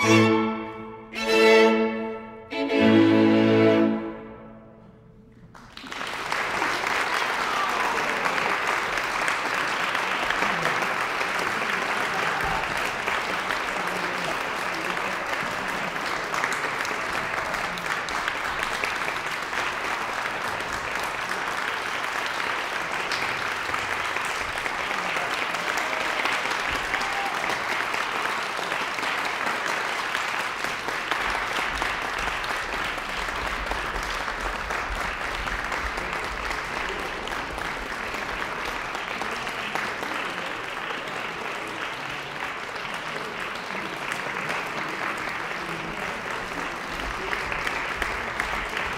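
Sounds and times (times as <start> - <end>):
audience applauding: 5.3 - 48.9.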